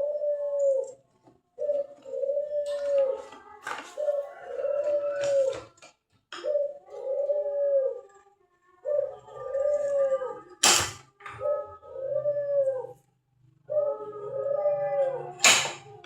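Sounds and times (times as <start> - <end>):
animal howling and whining: 0.0 - 1.0, 1.6 - 5.8, 6.5 - 16.0.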